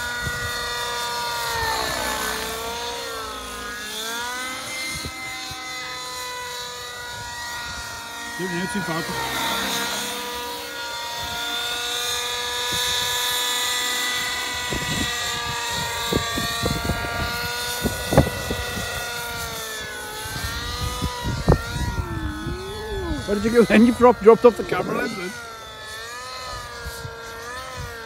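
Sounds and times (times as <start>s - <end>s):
model helicopter motor whine: 0.0s - 28.0s.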